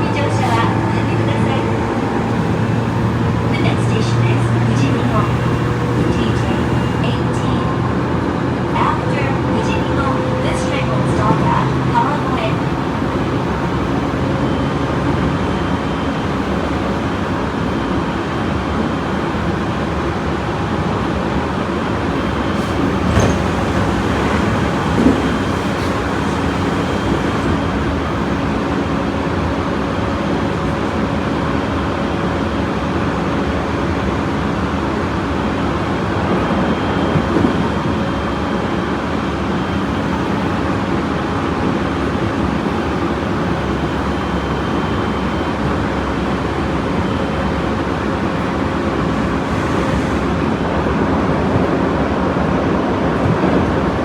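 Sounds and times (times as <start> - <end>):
wheels rumbling on track: 0.0 - 54.0.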